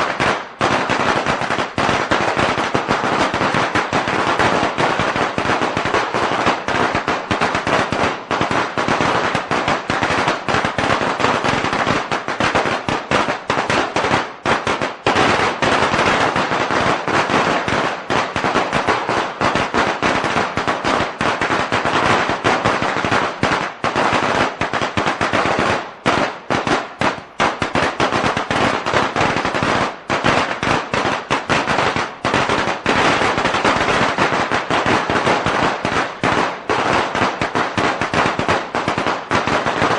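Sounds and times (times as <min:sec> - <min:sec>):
firecrackers going off: 0:00.0 - 0:39.9.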